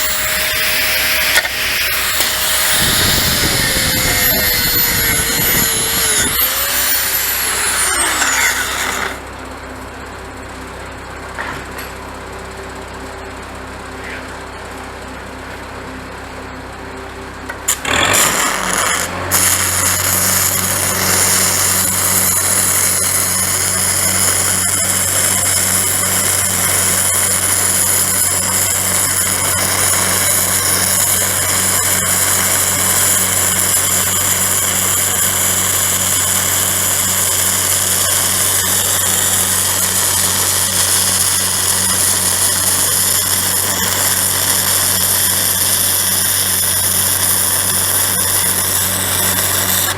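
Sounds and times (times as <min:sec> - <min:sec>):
welding arc crackling: 0:00.0 - 0:09.2, 0:17.6 - 0:49.9
engine-driven welder running: 0:00.0 - 0:49.9.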